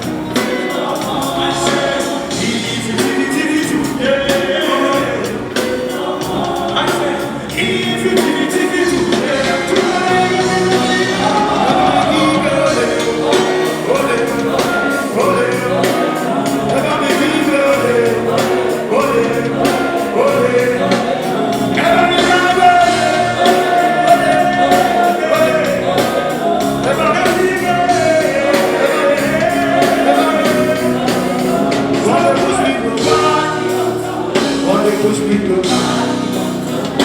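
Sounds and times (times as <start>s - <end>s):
live band with singing: 0.0s - 37.0s.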